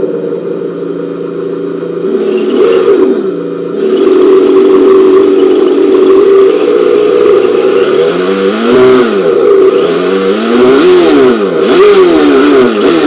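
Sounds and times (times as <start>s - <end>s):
simulated car engine from small speaker: 0.0s - 13.0s.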